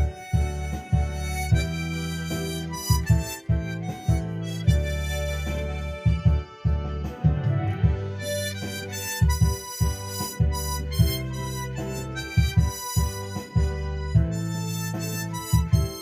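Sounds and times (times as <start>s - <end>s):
bass-heavy backing track: 0.0s - 16.0s
harmonica melody: 0.0s - 16.0s.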